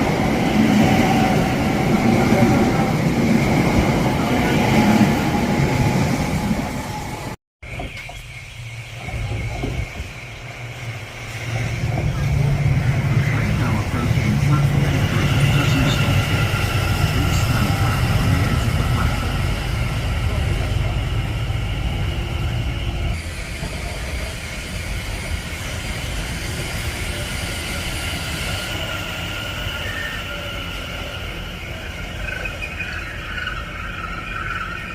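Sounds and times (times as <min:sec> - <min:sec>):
passenger train passing on rails: 0:00.0 - 0:34.9.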